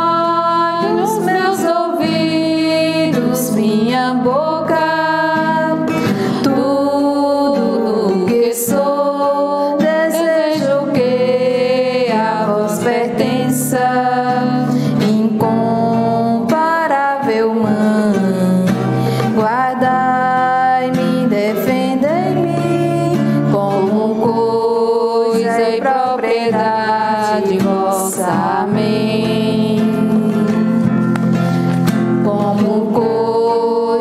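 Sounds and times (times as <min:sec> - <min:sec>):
acoustic guitar: 0:00.0 - 0:34.0
women singing a hymn: 0:00.0 - 0:34.0.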